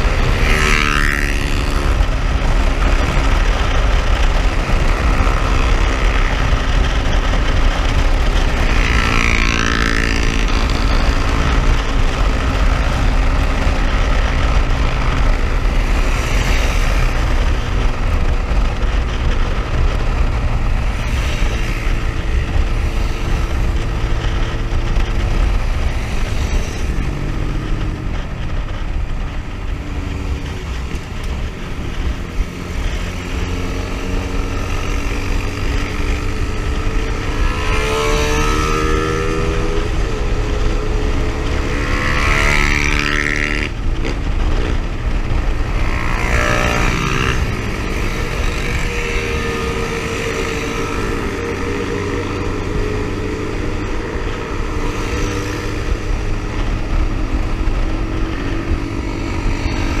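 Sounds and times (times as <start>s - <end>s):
motorcycle engine running: 0.0s - 60.0s
wind rush on microphone: 0.0s - 60.0s.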